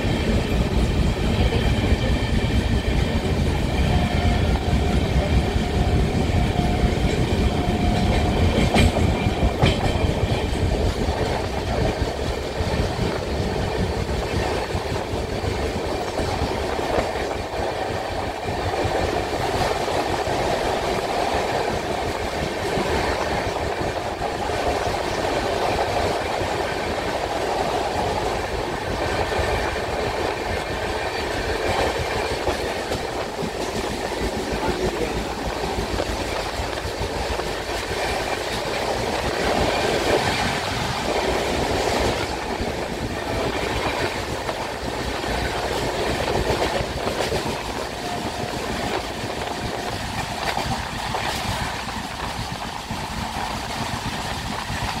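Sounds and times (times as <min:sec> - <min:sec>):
clickety-clack over track: 0:00.0 - 0:55.0
train rumble and wheel noise: 0:00.0 - 0:55.0.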